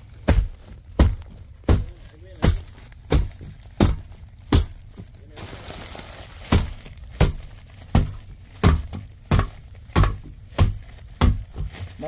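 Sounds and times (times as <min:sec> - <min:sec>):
boot stamping on metal duct: 0:00.0 - 0:05.4, 0:06.4 - 0:12.0
scraping rustle of duct: 0:00.0 - 0:12.0.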